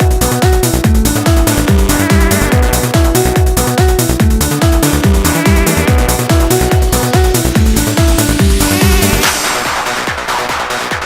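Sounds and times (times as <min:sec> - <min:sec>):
bass line: 0:00.2 - 0:09.4.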